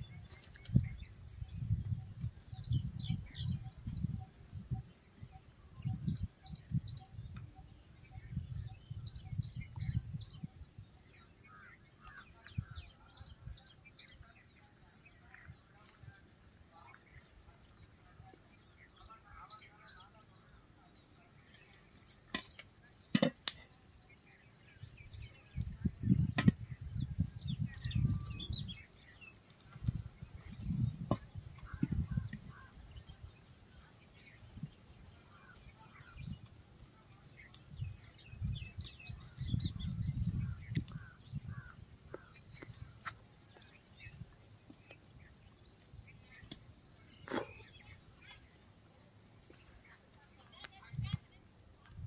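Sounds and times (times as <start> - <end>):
wind gusting on microphone: 0.0 - 14.4, 24.6 - 52.0
small birds chirping: 0.0 - 52.0.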